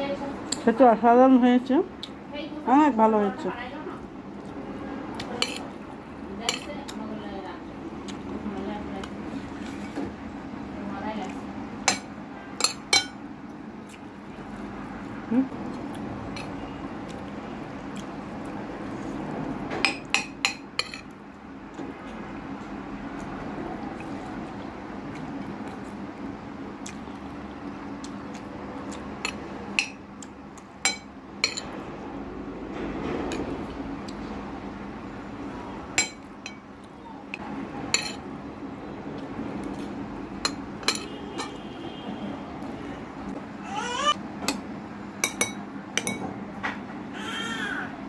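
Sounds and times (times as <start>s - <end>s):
low background hum: 0.0s - 48.0s.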